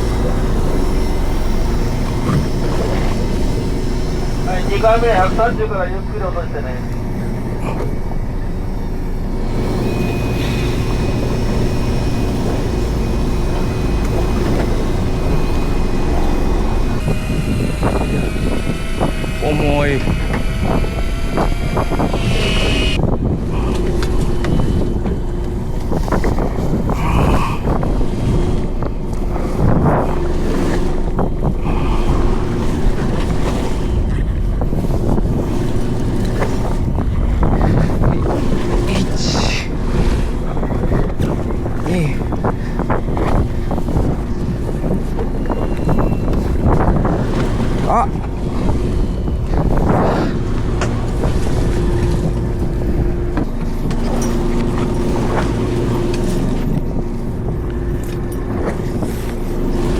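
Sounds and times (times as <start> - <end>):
boat engine low hum: 0.0 - 59.9
sea: 0.0 - 59.9
thin steady whine: 0.0 - 59.9
wind buffeting microphone: 0.0 - 59.9.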